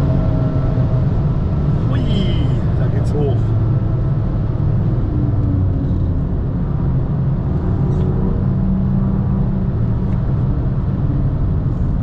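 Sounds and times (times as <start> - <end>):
car engine and exhaust running: 0.0 - 12.0
tyre and road noise: 0.0 - 12.0.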